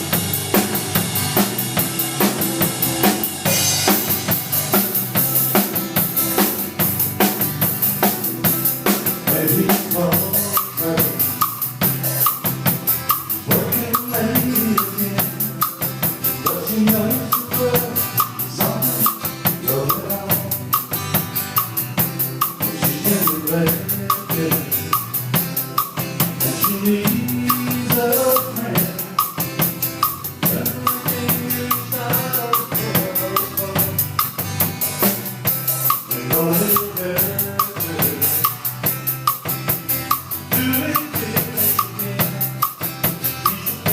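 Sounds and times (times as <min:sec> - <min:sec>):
drum kit beat: 0:00.0 - 0:43.9.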